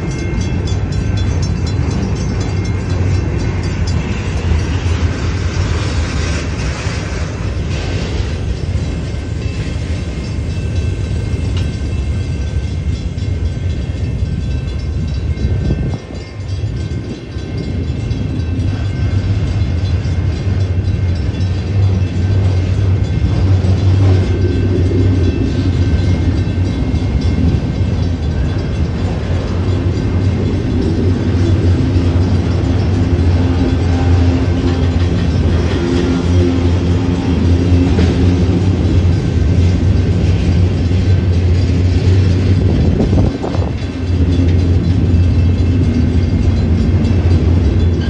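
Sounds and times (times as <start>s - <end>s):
freight cars rumbling on rails: 0.0s - 48.0s.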